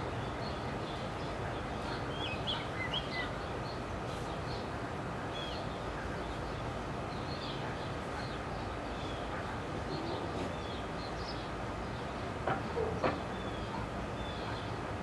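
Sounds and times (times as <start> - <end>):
small birds chirping: 0.0 - 14.9
steady background hiss: 0.0 - 15.0.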